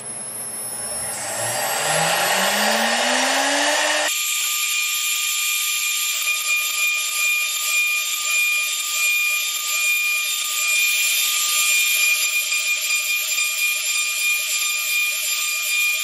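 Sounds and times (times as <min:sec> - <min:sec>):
router spindle whining: 0:00.0 - 0:13.9.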